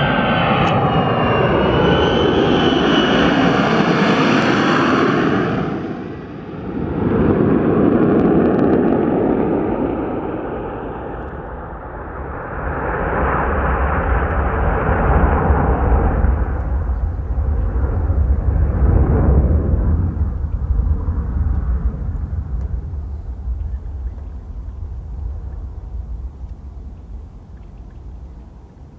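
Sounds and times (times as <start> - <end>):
jet engine roar with high whine: 0.0 - 28.9
low rumble of jet: 0.0 - 28.9.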